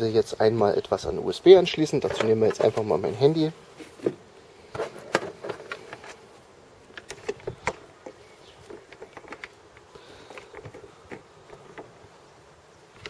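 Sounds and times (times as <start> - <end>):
faint steady buzz: 0.0 - 13.0.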